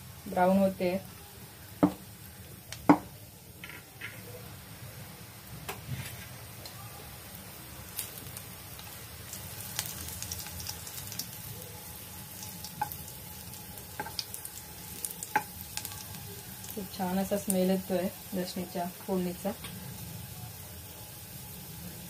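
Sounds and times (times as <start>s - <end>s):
garlic sizzling in hot oil: 0.0s - 22.0s.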